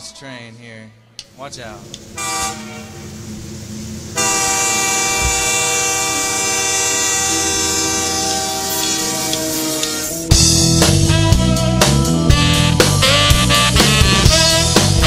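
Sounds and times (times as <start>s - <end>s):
band playing held chord: 1.5s - 15.0s.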